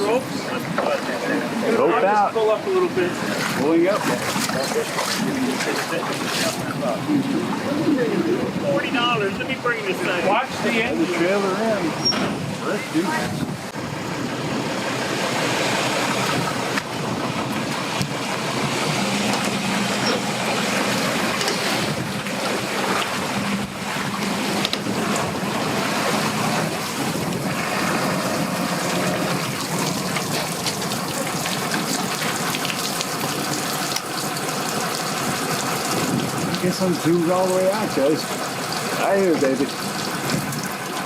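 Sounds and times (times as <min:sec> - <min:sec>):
strong wind: 0:00.0 - 0:32.6, 0:35.2 - 0:38.1, 0:40.0 - 0:41.0
lake water splashing: 0:00.0 - 0:41.0.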